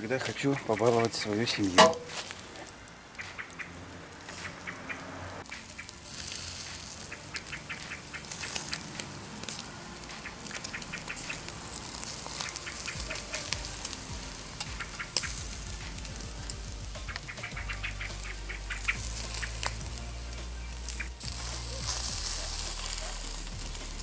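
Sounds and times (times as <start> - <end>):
fat crackling on coals: 0.0 - 24.0
meat sizzling over charcoal: 0.0 - 24.0.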